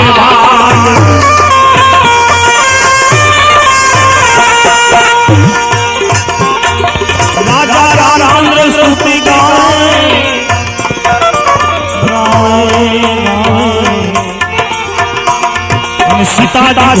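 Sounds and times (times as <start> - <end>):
percussion steady beat: 0.0 - 17.0.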